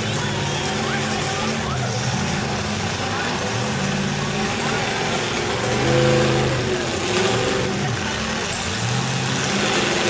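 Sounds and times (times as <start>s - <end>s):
truck engines revving: 0.0s - 10.0s.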